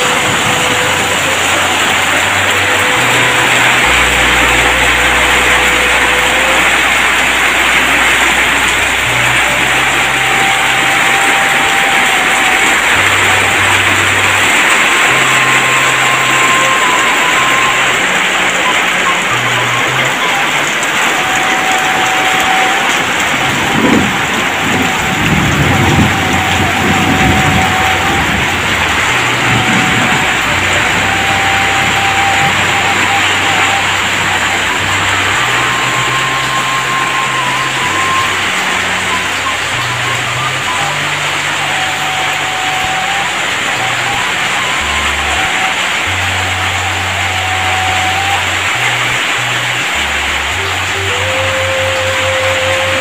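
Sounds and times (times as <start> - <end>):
heavy rain downpour: 0.0 - 53.0.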